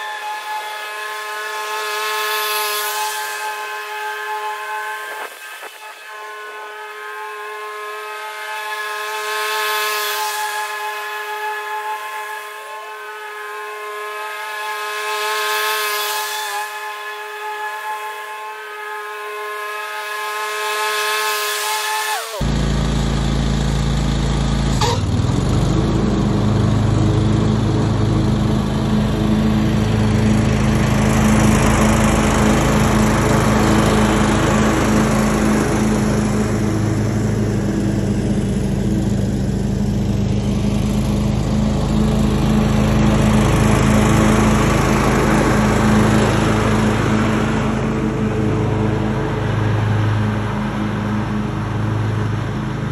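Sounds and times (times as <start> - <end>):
lawn tractor mowing: 0.0 - 52.9.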